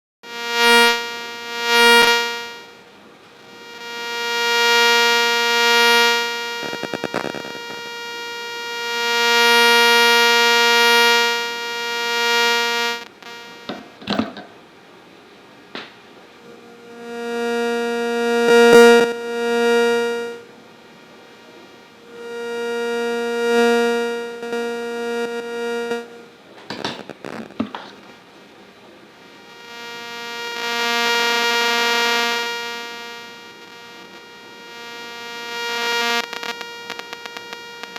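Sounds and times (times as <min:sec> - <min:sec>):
steady interference buzz: 0:00.2 - 0:14.7, 0:16.2 - 0:37.9.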